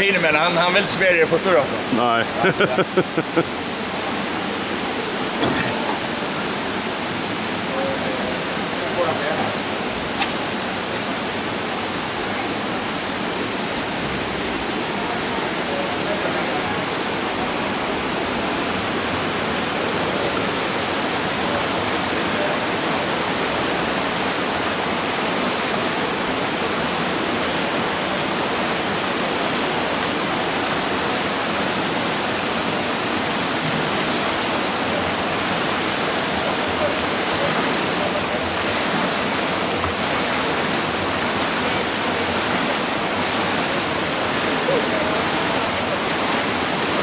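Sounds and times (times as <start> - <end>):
swimming pool hall rushing noise: 0.0 - 47.0.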